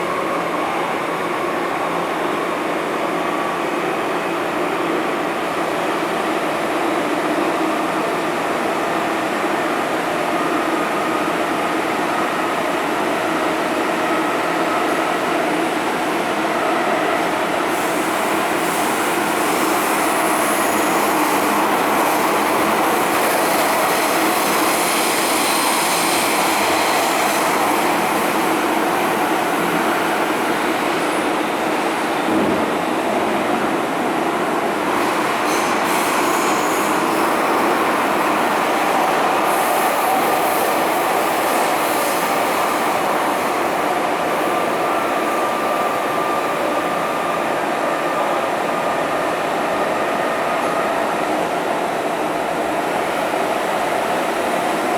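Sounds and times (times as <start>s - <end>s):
metro train wheels rumbling: 0.0s - 54.9s.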